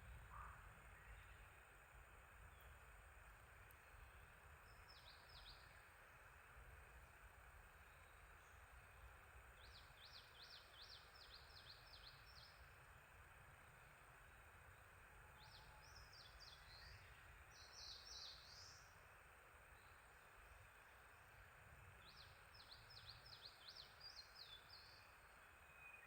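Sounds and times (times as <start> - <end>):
background hiss: 0.0 - 26.0
faint songbird song: 0.0 - 26.0.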